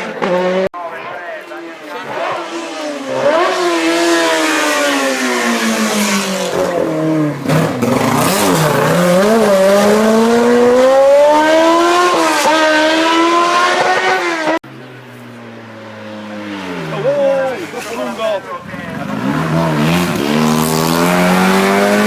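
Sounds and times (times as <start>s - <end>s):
race car engine revving: 0.0s - 0.7s, 1.7s - 14.7s, 15.3s - 22.0s.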